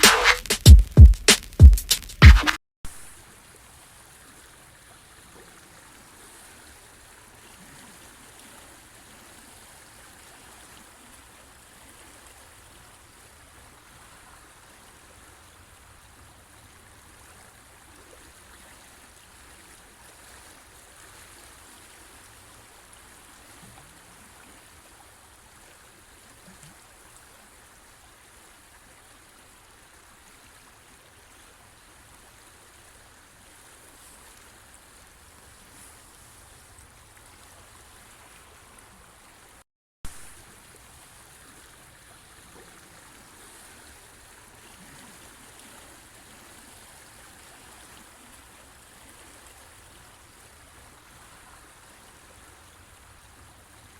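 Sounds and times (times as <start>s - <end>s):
river water flowing: 2.9s - 53.9s.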